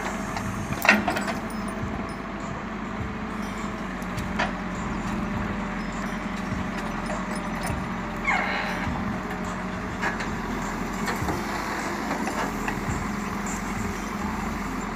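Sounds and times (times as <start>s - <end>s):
diesel engine running under load: 0.0s - 14.9s.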